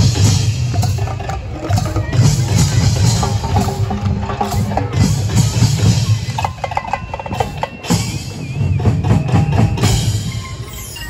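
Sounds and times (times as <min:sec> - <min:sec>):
low drum beats: 0:00.0 - 0:10.4.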